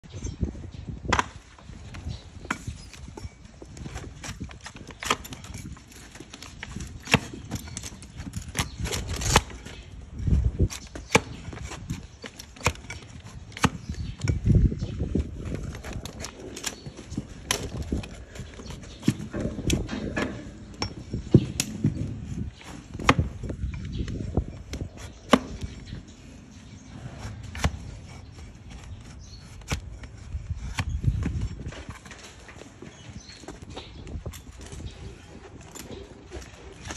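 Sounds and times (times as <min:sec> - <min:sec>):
blade scraping hoof: 0:01.9 - 0:36.9.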